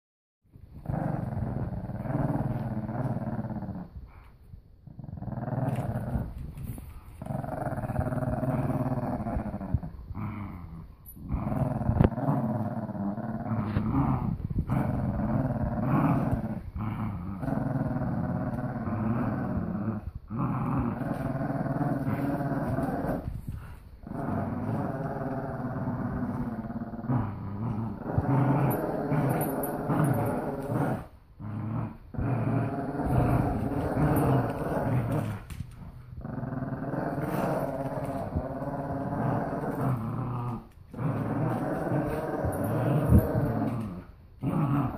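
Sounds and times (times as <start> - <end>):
dogs growling in play: 0.5 - 44.9.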